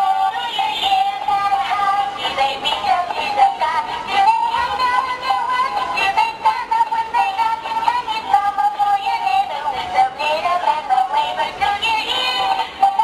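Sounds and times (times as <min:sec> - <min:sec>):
toy singing electronic voice: 0:00.0 - 0:13.0.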